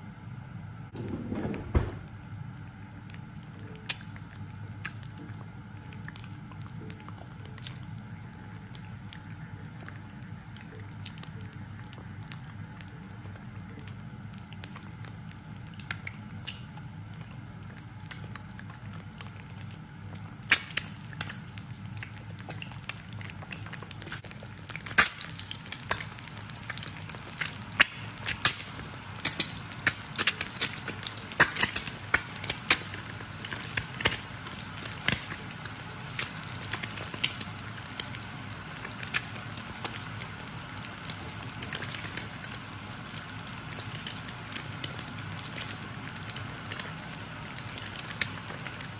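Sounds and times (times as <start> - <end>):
low steady hum: 0.0 - 48.9
eggs frying in oil: 0.9 - 48.9
spitting oil crackling and popping: 0.9 - 48.9.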